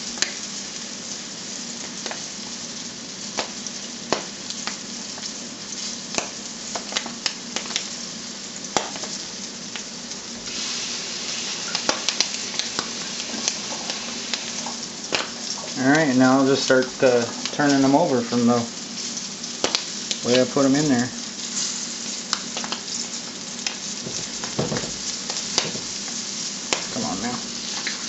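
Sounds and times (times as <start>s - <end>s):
livers sizzling in a skillet: 0.0s - 28.0s
sharp frying pops: 0.0s - 28.0s.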